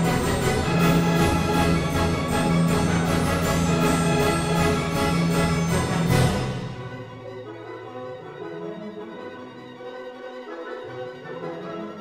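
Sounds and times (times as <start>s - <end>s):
orchestral music: 0.0s - 12.0s.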